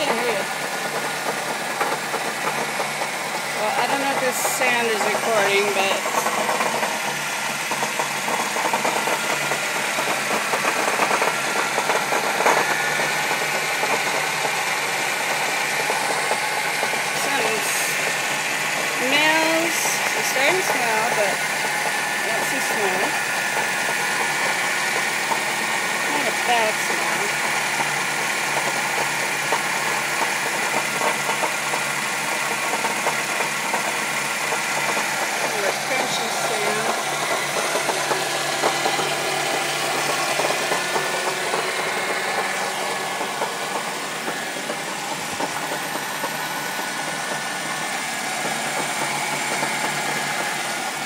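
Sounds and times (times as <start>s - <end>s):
car engine knocking rattle: 0.0s - 51.0s
loud engine knock: 0.0s - 51.0s.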